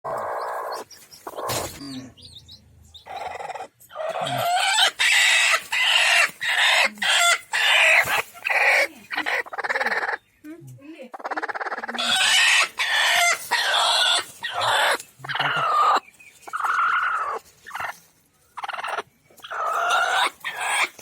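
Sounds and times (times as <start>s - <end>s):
chickens clucking and squawking: 0.1s - 21.0s.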